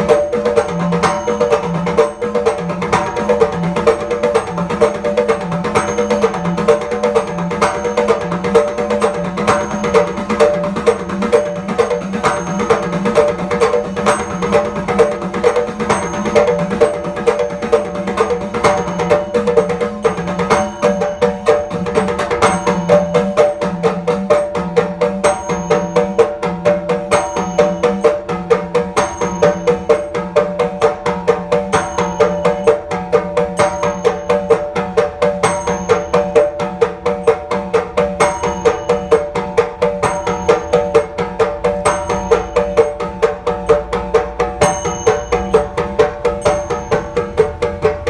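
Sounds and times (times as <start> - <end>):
pitched hourglass drum: 0.0 - 48.0
pot drums struck by hand: 0.0 - 48.0
small cymbals ringing: 0.0 - 48.0.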